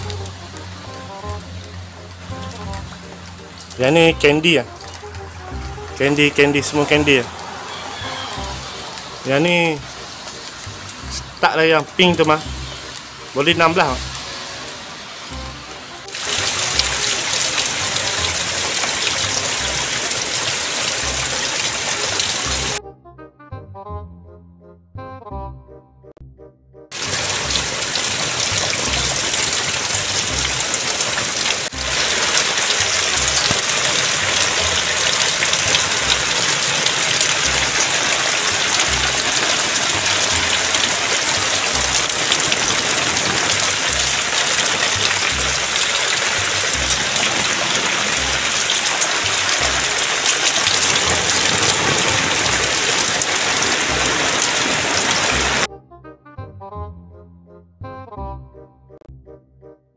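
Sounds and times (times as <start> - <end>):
heavy rain on metal: 0.0 - 22.8, 26.9 - 55.7.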